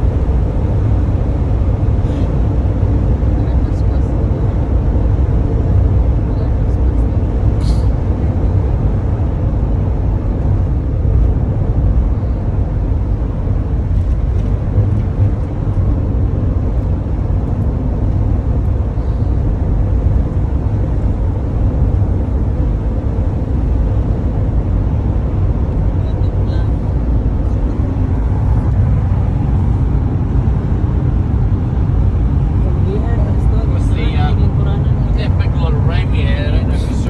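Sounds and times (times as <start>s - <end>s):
coach engine and road rumble: 0.0s - 37.0s.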